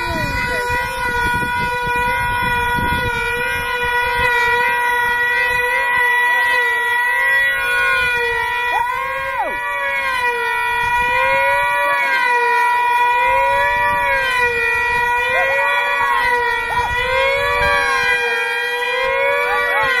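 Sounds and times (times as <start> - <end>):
model engines screaming: 0.0 - 20.0.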